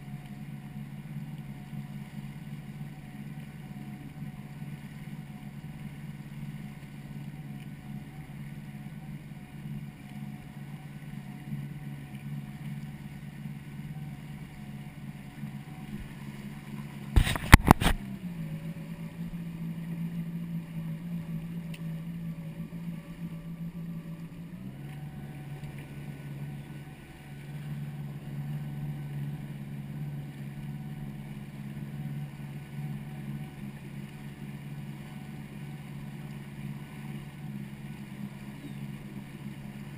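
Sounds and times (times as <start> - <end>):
watercraft engine running: 0.0 - 39.9.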